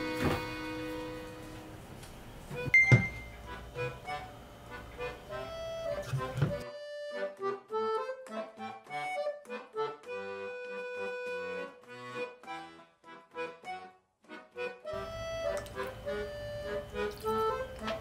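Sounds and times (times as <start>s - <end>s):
accordion music: 0.0s - 1.8s, 2.6s - 18.0s.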